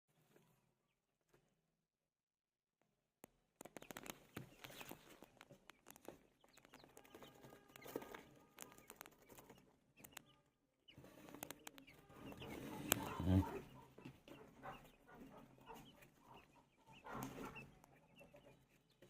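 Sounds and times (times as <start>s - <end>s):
chicks pecking clicks and taps: 1.3s - 1.6s, 3.2s - 19.0s
chicks peeping: 3.2s - 19.0s.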